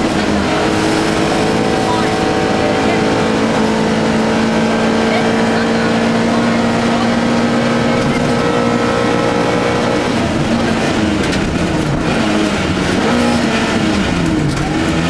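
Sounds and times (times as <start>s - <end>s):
rally car engine: 0.0s - 15.0s
tyres on gravel road: 0.0s - 15.0s.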